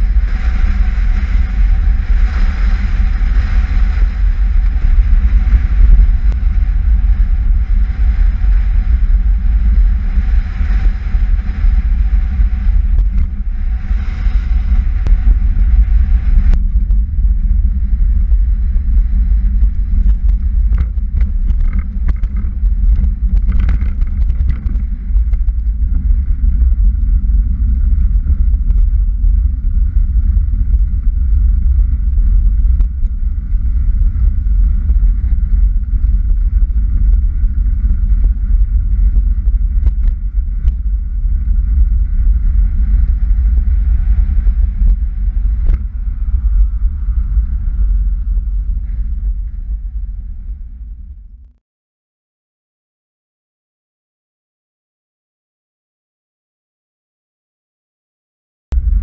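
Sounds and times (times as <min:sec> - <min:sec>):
wind buffeting microphone: 0:00.0 - 0:51.4, 0:58.7 - 0:59.0.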